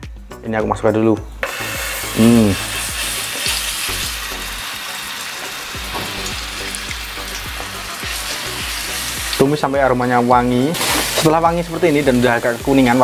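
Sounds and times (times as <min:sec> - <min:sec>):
garlic sizzling in hot oil: 0:01.4 - 0:13.0.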